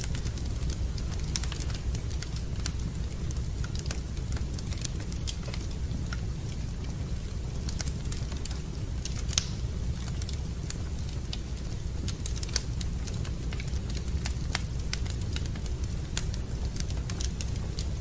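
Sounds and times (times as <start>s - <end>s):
low fire rumble: 0.0s - 18.0s
wood fire crackling: 0.0s - 18.0s.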